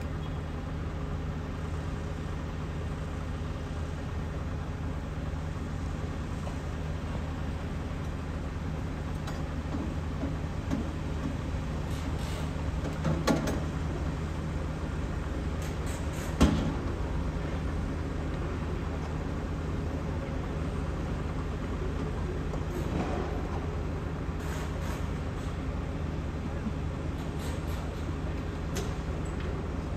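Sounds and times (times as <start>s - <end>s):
excavator diesel engine idling: 0.0s - 29.9s.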